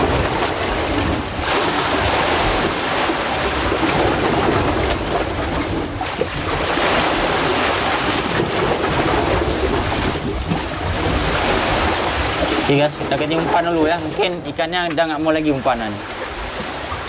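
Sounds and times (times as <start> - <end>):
sea surf washing through rocks: 0.0 - 17.0
wind buffeting microphone: 0.0 - 17.0.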